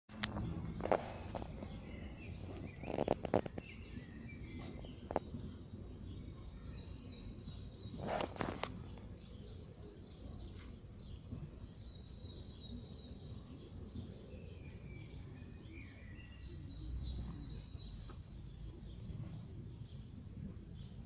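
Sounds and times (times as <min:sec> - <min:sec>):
faint bird chirps: 0:00.4 - 0:21.0.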